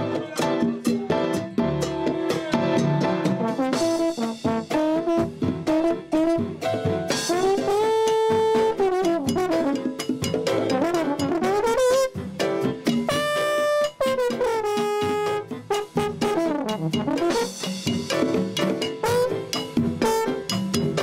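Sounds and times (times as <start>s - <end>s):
drums and percussion beat: 0.0s - 21.0s
brass horn melody: 1.8s - 12.4s, 13.0s - 17.8s, 19.0s - 20.6s.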